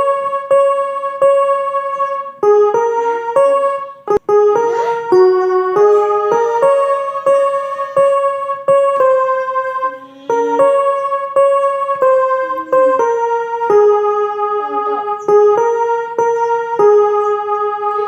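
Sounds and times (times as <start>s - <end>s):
electronic keyboard melody: 0.0s - 18.0s.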